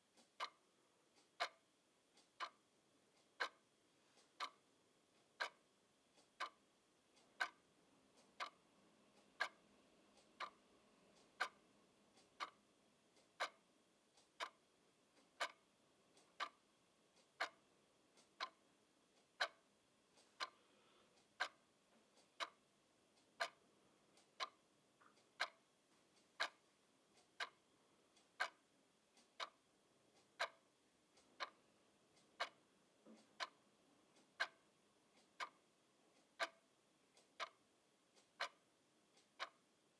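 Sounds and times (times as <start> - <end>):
clock ticking: 0.0 - 20.6, 21.2 - 39.9.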